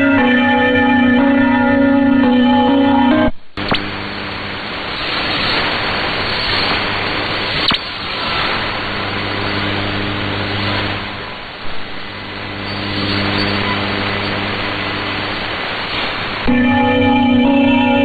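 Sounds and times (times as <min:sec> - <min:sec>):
sharp static crack: 0:03.3 - 0:17.8
radio static hiss: 0:03.4 - 0:17.8.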